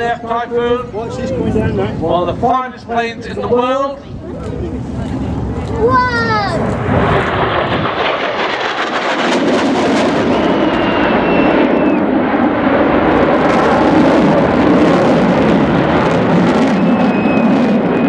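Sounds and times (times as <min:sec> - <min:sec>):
jet roar: 0:00.0 - 0:18.0.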